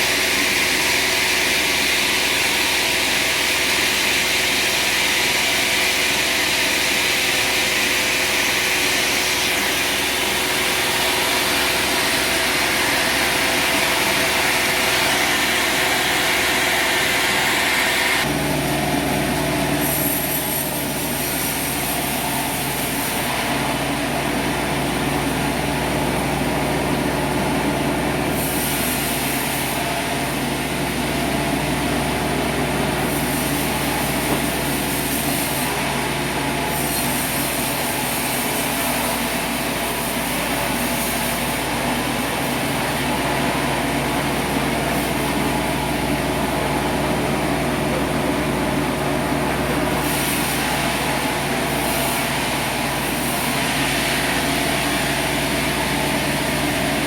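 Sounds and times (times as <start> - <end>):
sawmill engine drone: 0.0 - 57.0.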